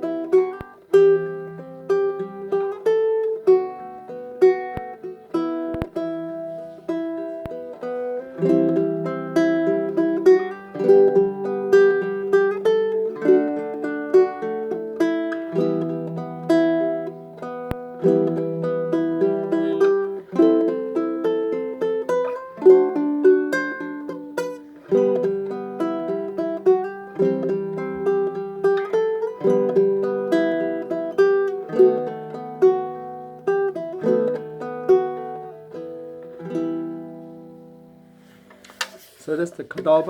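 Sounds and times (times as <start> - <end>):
baritone ukulele playing a tune: 0.0 - 40.0.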